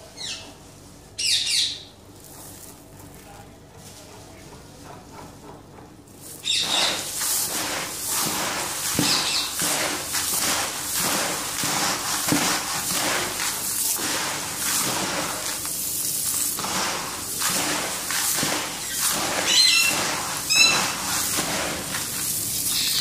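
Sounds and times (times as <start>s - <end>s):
seeds rattling in plastic tub: 1.7s - 4.4s, 5.9s - 23.0s.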